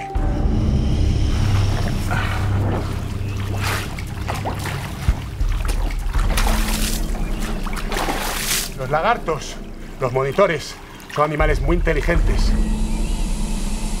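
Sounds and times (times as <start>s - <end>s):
steady low rumble: 0.0s - 14.0s
stream water splashing and trickling: 0.9s - 12.5s.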